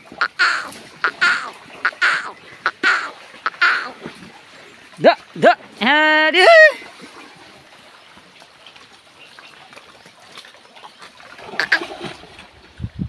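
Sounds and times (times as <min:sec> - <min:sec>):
animals splashing in water: 0:00.0 - 0:12.8
water trickling: 0:00.0 - 0:13.0.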